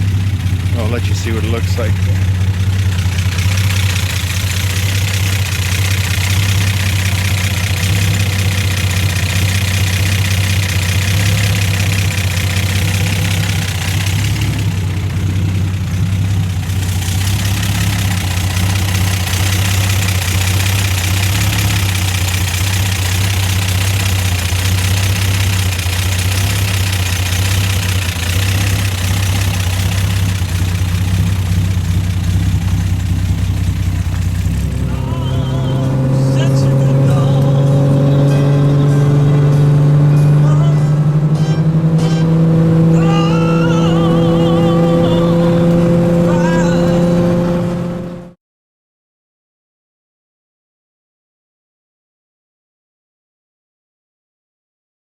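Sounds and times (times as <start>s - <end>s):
car engine running: 0.0s - 48.4s.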